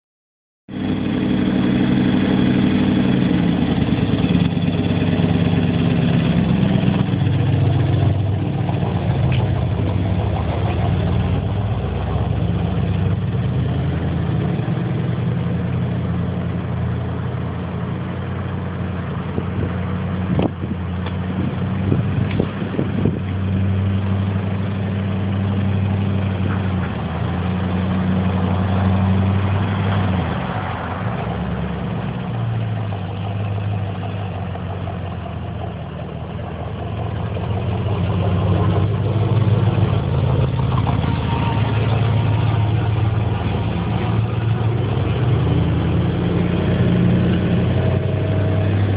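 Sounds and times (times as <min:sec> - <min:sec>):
car engine idling and driving off: 0:00.7 - 0:48.9.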